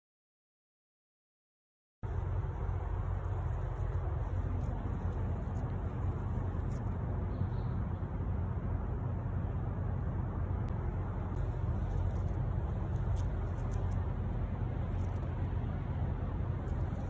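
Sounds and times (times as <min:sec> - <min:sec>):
low rumble: 0:02.0 - 0:17.0.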